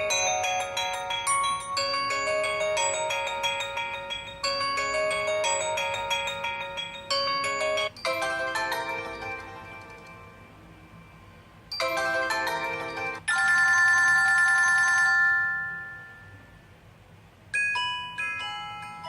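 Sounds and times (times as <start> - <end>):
bell-like phone chime: 0.0 - 11.2, 11.8 - 16.7, 17.6 - 19.0
held ringing tone: 0.0 - 16.7.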